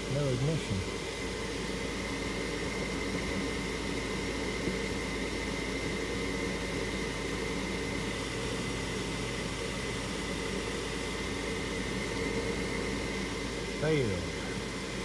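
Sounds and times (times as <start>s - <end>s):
faint high whine: 0.0s - 15.0s
furnace fan whirring: 0.0s - 15.0s.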